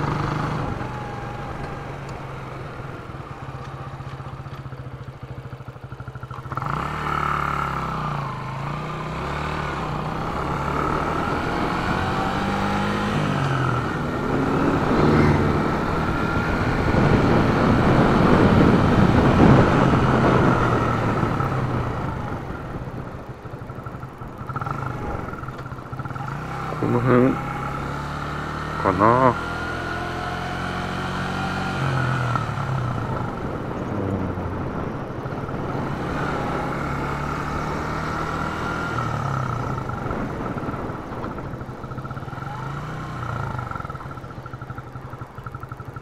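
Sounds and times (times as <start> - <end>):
motorcycle engine shifting gears: 0.0 - 46.0.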